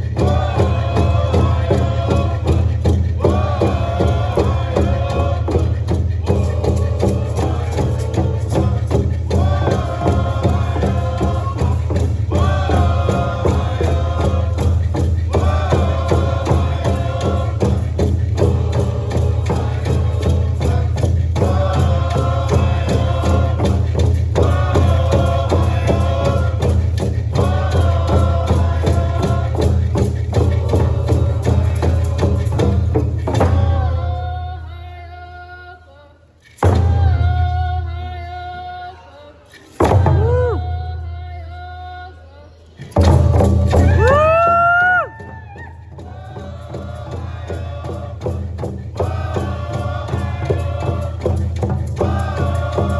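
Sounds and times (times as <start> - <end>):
fast dense percussion: 0.0 - 34.5, 36.6 - 38.0, 39.8 - 41.1, 42.8 - 52.9.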